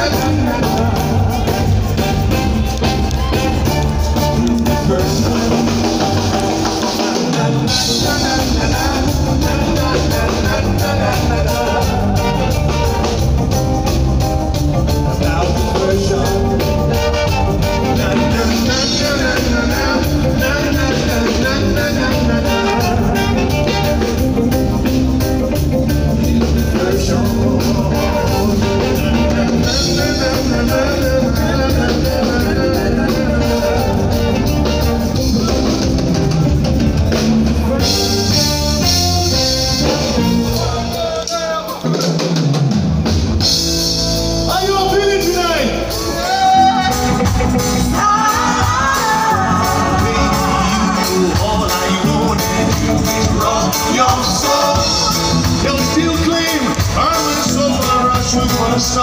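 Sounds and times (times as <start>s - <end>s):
person singing: 0.0s - 42.3s, 44.5s - 59.0s
bass guitar: 0.0s - 59.0s
drum kit: 0.0s - 59.0s
electric guitar: 0.0s - 59.0s.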